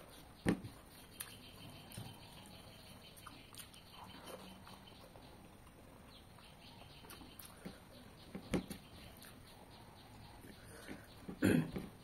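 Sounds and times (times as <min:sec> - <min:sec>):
mouth chewing: 0:00.0 - 0:11.4.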